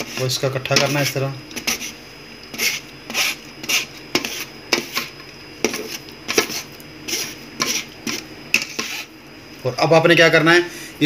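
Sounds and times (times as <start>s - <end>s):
spoon scraping wire-mesh strainer: 0.0s - 9.1s.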